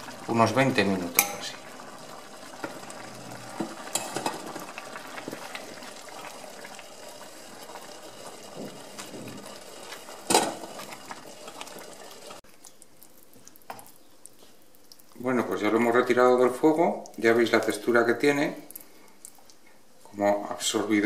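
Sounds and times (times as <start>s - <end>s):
risotto sloshing and bubbling: 0.0s - 20.0s.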